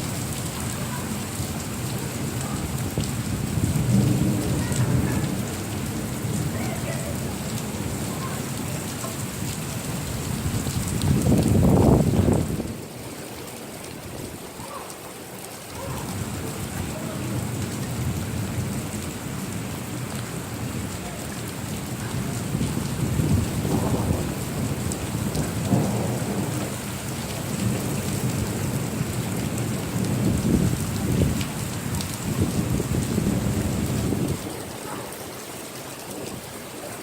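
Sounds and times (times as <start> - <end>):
thunder rumbling: 0.0 - 13.0, 15.8 - 34.8
steady rain: 0.0 - 37.0.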